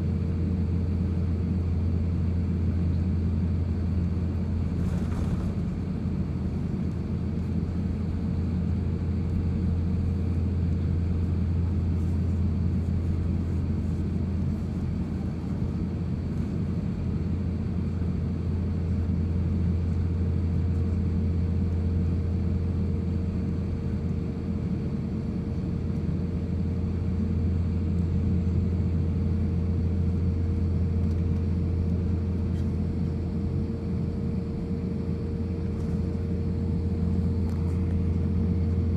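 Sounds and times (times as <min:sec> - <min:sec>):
aircraft cabin engine drone: 0:00.0 - 0:38.9.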